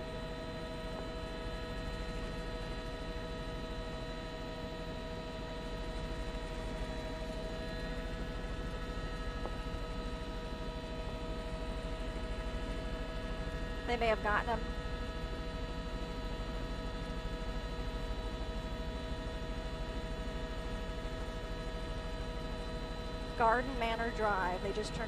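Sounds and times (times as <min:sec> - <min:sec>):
helicopter cabin hum: 0:00.0 - 0:25.0.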